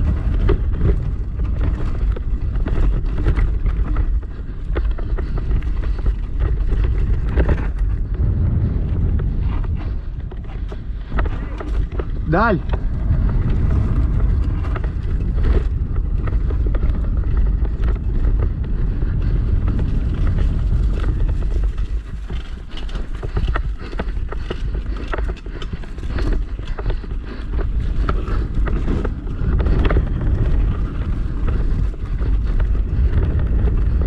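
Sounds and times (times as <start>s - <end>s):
bike rattling over bumps: 0.0s - 34.0s
wind rushing over microphone: 0.0s - 34.0s.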